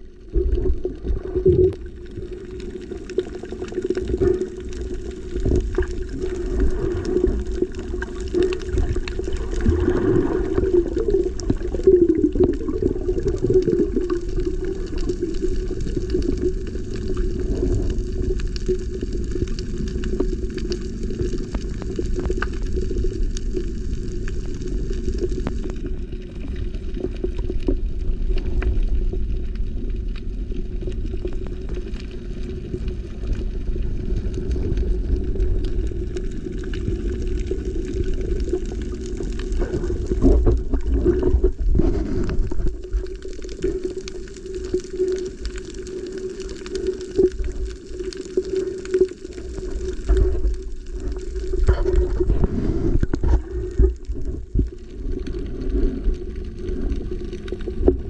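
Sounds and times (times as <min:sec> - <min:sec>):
underwater rush of water: 0:00.0 - 0:58.0.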